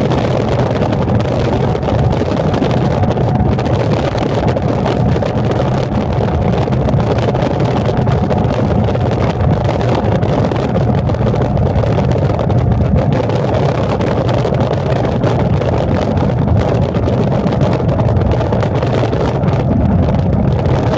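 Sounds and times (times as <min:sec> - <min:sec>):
faint constant hum: 0:00.0 - 0:20.9
train rumbling: 0:00.0 - 0:20.9.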